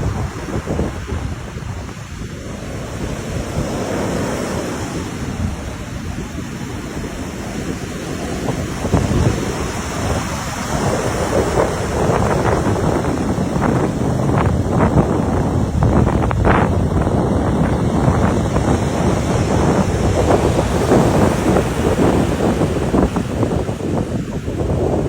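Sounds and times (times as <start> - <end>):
sea waves washing ashore: 0.0 - 25.0
wind buffeting microphone: 0.0 - 25.0.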